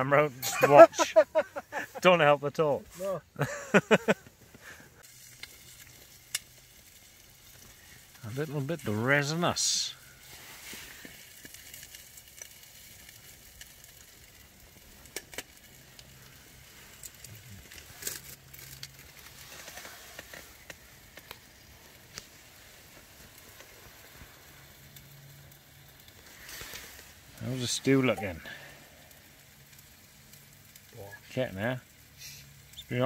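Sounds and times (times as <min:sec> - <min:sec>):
faint steady sizzling: 0:00.0 - 0:33.0
stove pipe ticks and crackles: 0:00.1 - 0:33.0.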